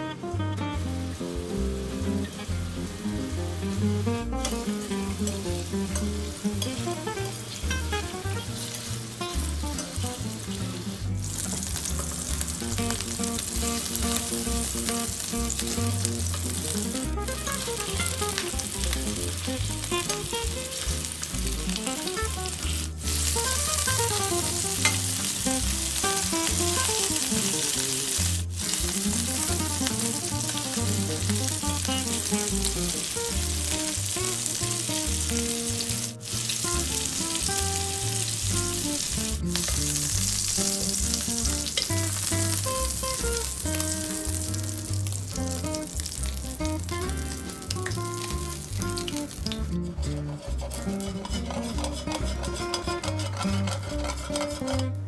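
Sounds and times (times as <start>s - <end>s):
background music: 0.0s - 55.0s
meatballs sizzling in a pan: 0.7s - 55.0s.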